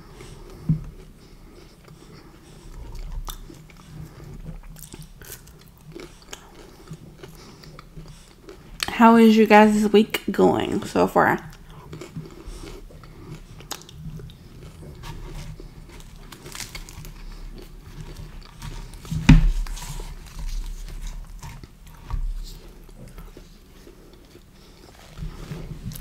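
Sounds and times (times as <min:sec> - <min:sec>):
chewing and biting pizza: 0:00.0 - 0:08.9, 0:11.4 - 0:26.0.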